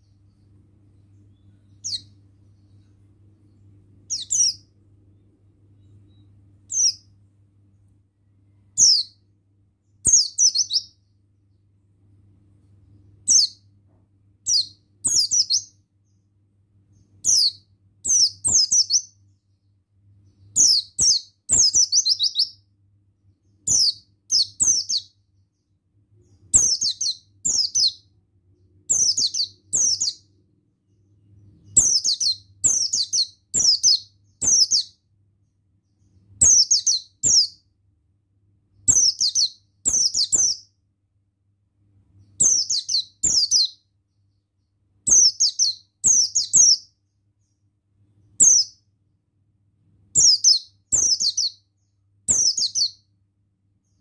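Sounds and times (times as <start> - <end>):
bird singing high chirps: 0.0 - 7.2, 8.5 - 11.2, 13.0 - 13.7, 14.4 - 16.2, 16.9 - 22.7, 23.4 - 37.8, 38.8 - 40.8, 42.2 - 48.9, 50.1 - 53.1.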